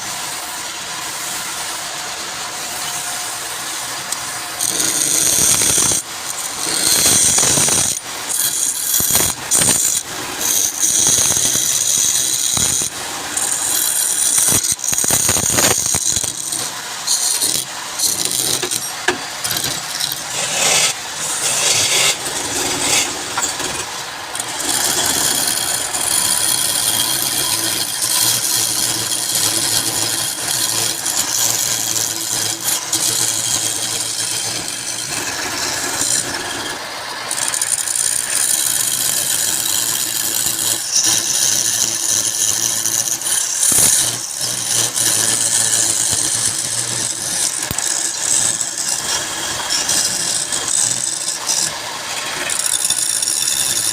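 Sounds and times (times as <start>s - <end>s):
turning tool cutting wood: 0.0s - 53.9s
wood lathe running: 0.0s - 53.9s.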